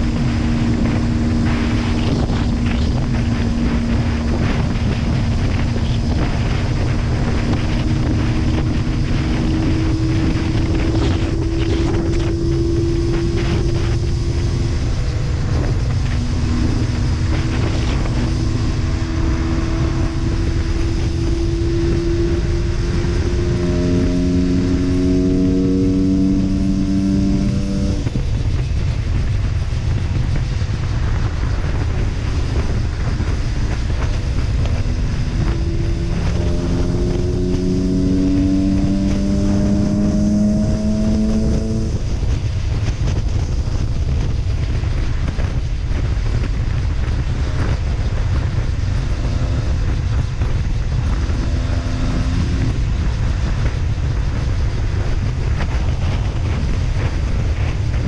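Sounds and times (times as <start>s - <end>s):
heavy wind: 0.0s - 58.0s
motorcycle engine running: 0.0s - 58.0s
road rumble: 0.0s - 58.0s.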